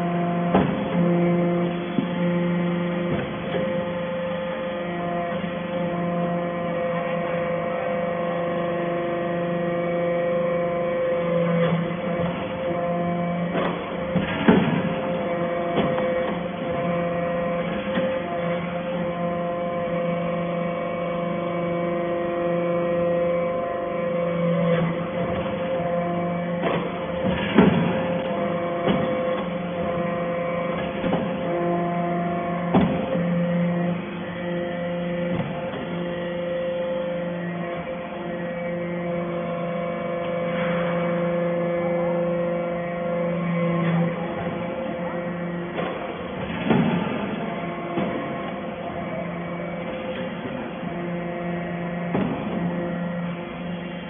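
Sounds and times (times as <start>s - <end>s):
hydraulic press motor hum: 0.0s - 54.0s.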